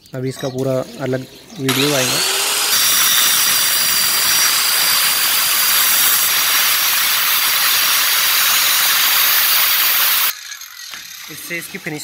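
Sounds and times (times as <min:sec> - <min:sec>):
electric cutter grinding stone: 0:01.7 - 0:12.0.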